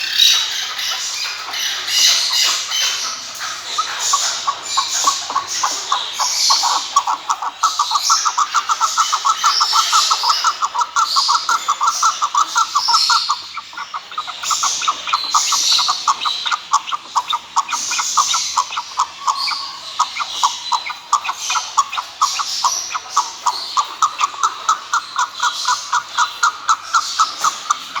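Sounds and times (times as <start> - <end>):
high bird chirps: 0.0 - 28.0
partridge clucking calls: 0.0 - 28.0.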